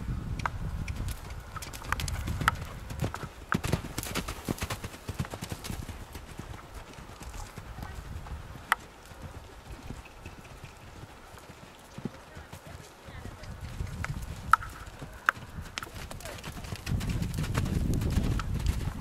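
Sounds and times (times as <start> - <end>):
horse hoofbeats on dirt: 0.4 - 19.0.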